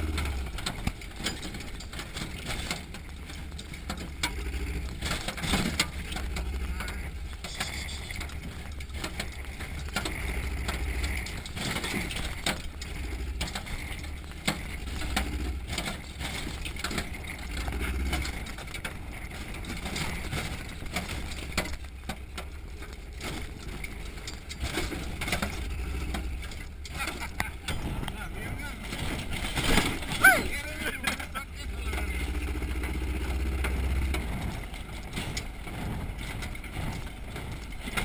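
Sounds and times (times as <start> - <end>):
chassis knocks and rattles: 0.0 - 38.0
truck engine running: 0.0 - 38.0.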